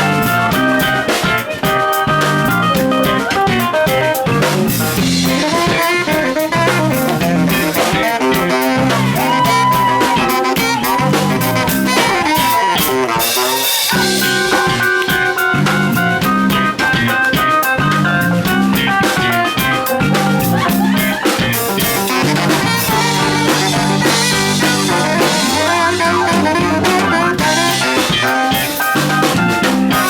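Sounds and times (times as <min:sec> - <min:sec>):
funk band playing: 0:00.0 - 0:30.0.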